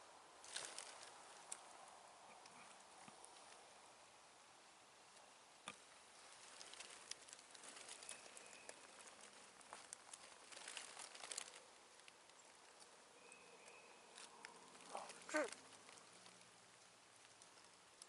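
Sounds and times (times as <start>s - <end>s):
faint crackles: 0.4s - 3.9s, 5.1s - 18.0s.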